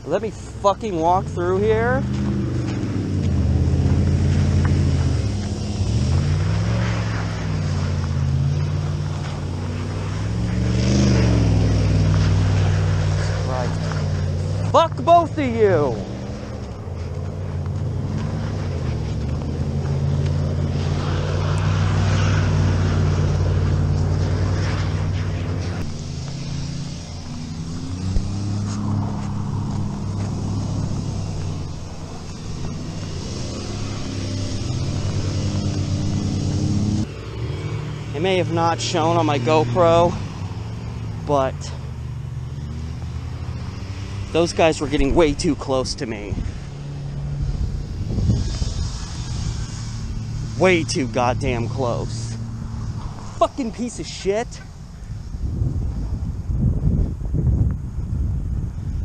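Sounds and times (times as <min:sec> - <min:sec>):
truck engine revving: 0:00.0 - 0:54.7.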